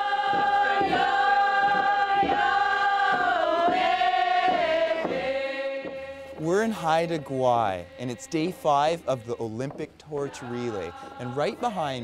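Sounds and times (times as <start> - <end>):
voices singing a slow chant: 0.0 - 12.0.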